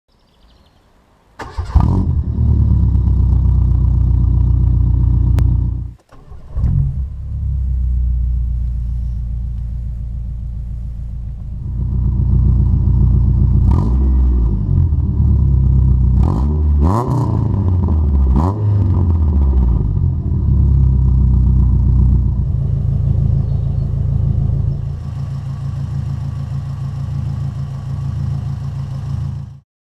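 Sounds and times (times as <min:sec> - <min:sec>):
car engine revving and idling: 0:01.5 - 0:29.6.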